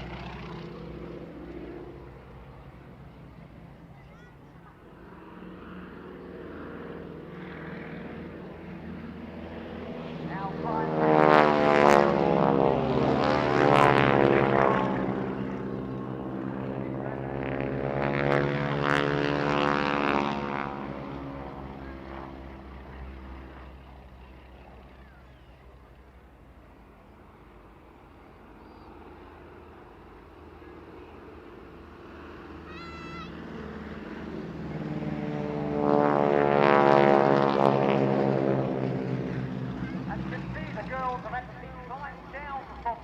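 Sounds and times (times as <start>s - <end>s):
biplane engines passing low: 0.0s - 43.0s.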